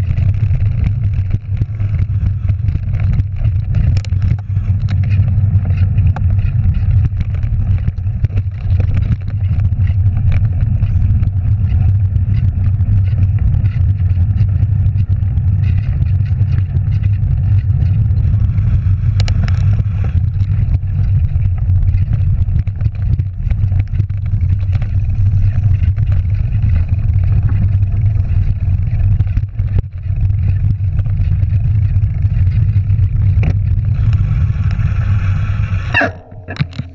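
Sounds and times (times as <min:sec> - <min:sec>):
bike rattling over bumps: 0:00.0 - 0:36.9
tyres rolling on gravel: 0:00.0 - 0:36.9
wind rumble: 0:00.0 - 0:36.9.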